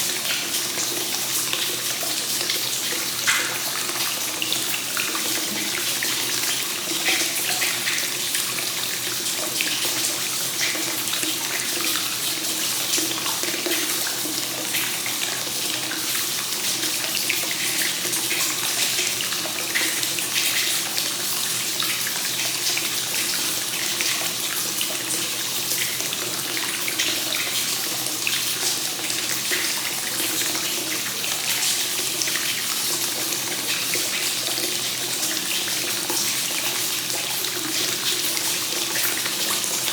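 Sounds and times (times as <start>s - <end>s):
water splashing into a bath: 0.0s - 39.9s.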